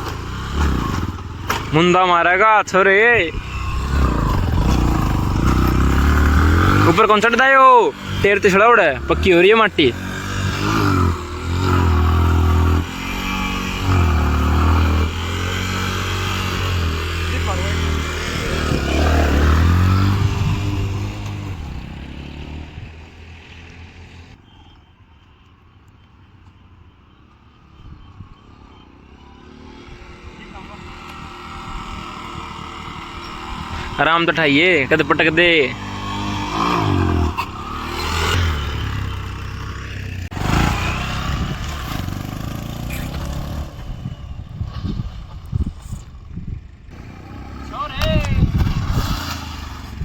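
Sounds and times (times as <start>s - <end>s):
motorcycle engine running: 0.0s - 24.4s, 28.5s - 50.0s.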